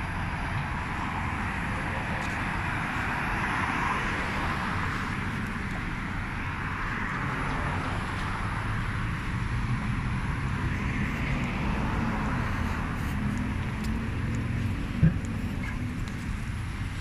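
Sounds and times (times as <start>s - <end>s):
cars passing: 0.0s - 17.0s
low traffic rumble: 0.0s - 17.0s.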